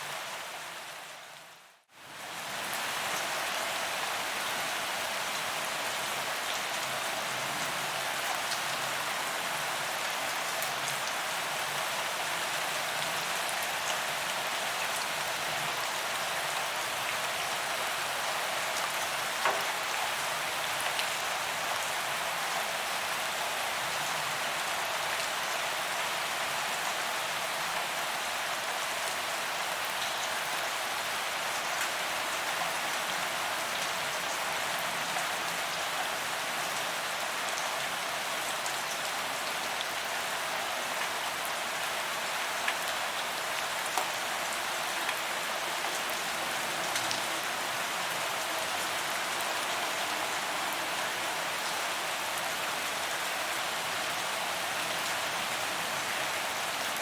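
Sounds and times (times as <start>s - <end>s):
rain falling on pavement: 0.0s - 57.0s.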